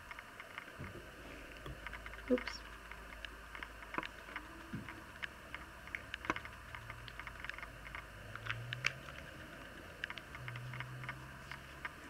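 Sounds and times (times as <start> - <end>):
faint low background hum: 0.0 - 12.0.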